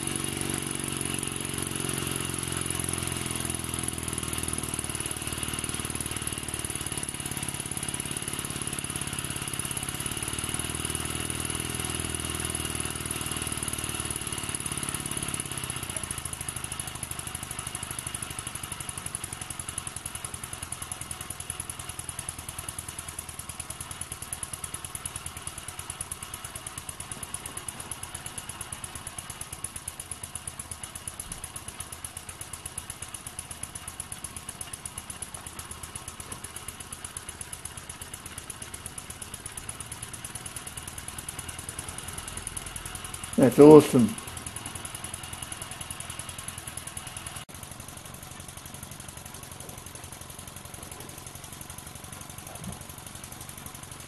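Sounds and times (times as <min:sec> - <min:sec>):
model steam engine chuffing: 0:00.0 - 0:54.0.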